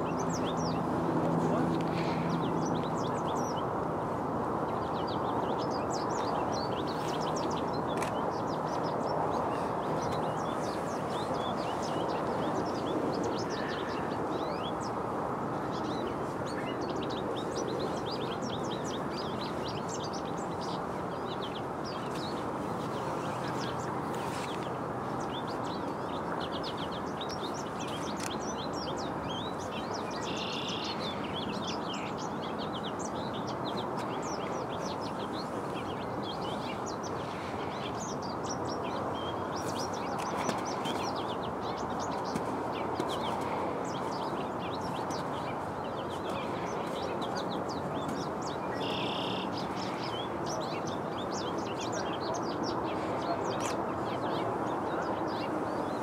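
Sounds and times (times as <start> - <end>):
background rush of noise: 0.0 - 56.0
songbirds chirping and twittering: 0.0 - 56.0.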